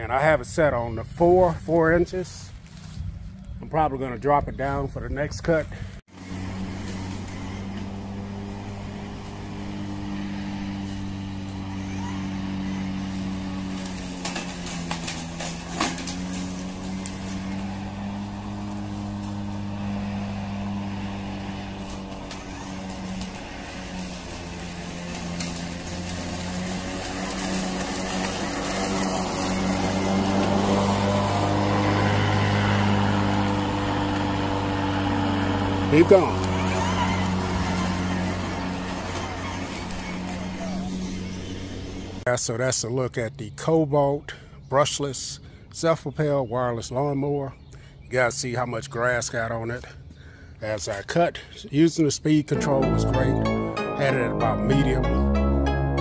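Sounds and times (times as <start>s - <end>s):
lawn mower cutting grass: 0.0s - 42.3s, 52.5s - 56.0s.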